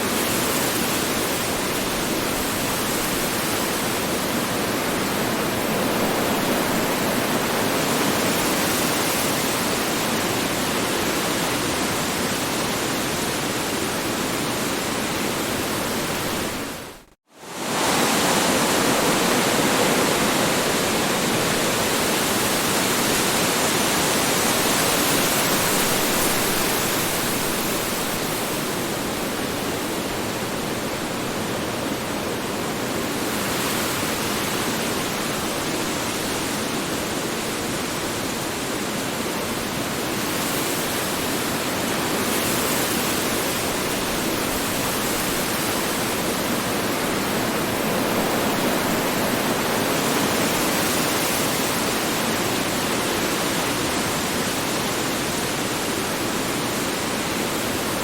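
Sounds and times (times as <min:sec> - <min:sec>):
strong wind blowing: 0:00.0 - 0:37.8, 0:41.4 - 0:58.0.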